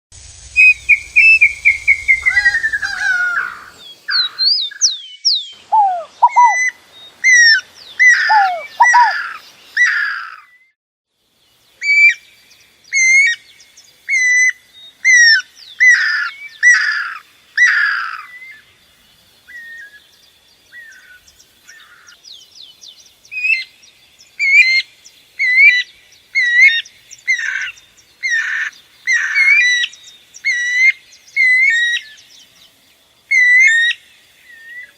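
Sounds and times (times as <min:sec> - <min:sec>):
songbirds singing: 0:00.4 - 0:34.9.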